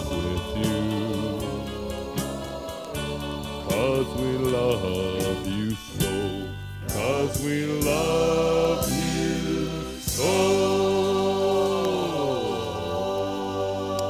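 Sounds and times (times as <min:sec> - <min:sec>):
voices singing over a band: 0:00.0 - 0:14.0.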